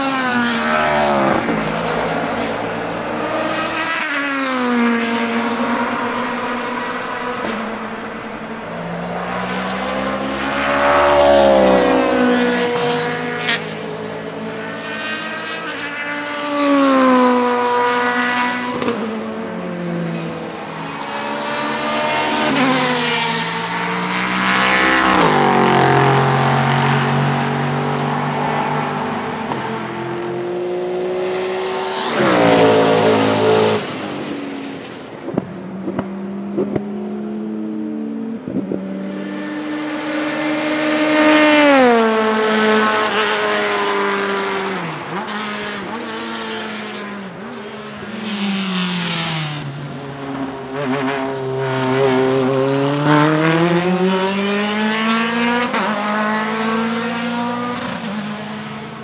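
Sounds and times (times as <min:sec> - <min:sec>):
race cars passing at speed: 0:00.0 - 0:59.0.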